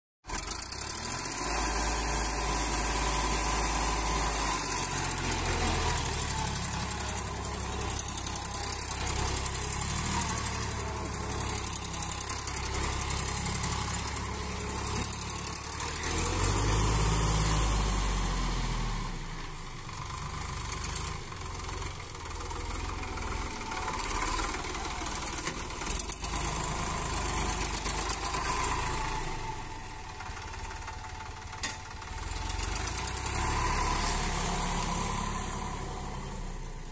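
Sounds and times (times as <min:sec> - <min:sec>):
tractor diesel engine under load: 0:00.2 - 0:36.9.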